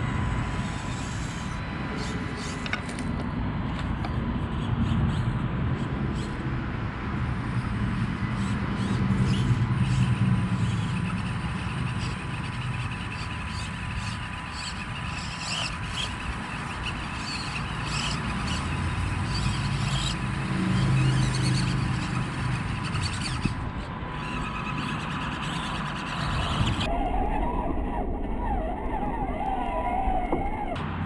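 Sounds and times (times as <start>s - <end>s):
motor and gear hum: 0.0s - 31.0s.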